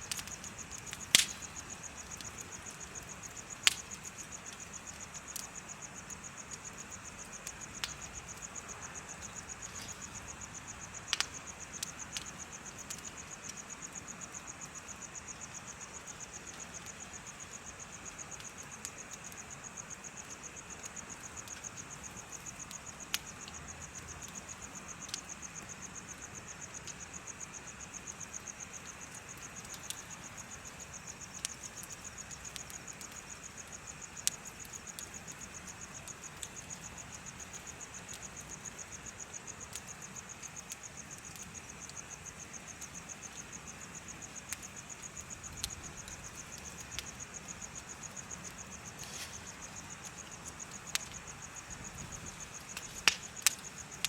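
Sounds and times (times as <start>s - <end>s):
bonfire crackling and popping: 0.0s - 54.0s
crickets chirping: 0.0s - 54.0s.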